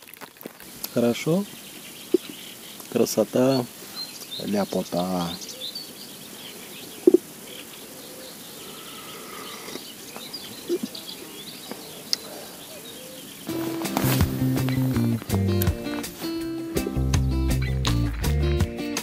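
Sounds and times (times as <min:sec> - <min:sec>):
songbirds chirping and singing: 0:00.6 - 0:19.0.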